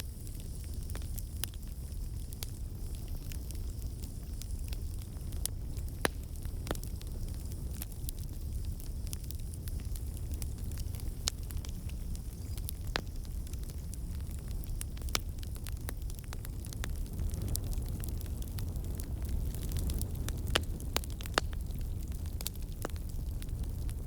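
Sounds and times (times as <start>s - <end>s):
burning wood crackling and popping: 0.0s - 24.0s
flames rumbling: 0.0s - 24.0s.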